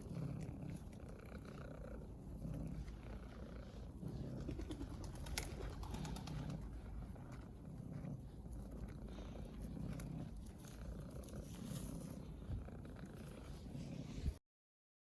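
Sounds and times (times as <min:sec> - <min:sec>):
cat purring: 0:00.0 - 0:14.4.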